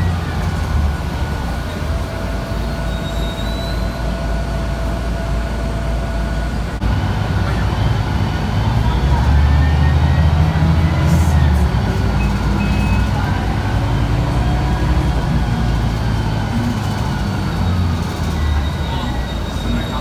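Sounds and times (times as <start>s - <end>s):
bus diesel engine drone: 0.0s - 20.0s
road noise: 0.0s - 20.0s.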